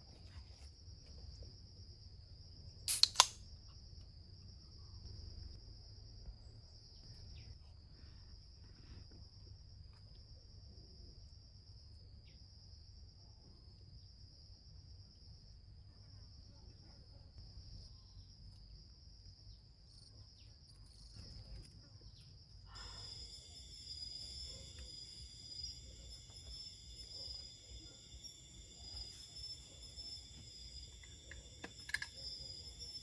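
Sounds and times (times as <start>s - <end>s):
cricket-like trill: 0.0s - 33.0s
insect drone: 0.0s - 33.0s.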